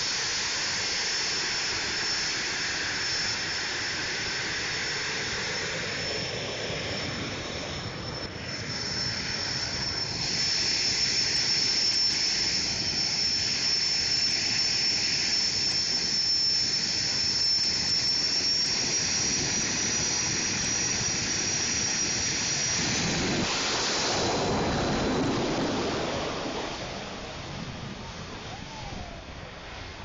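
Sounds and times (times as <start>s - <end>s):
jet engine whining and rushing: 0.0s - 30.0s.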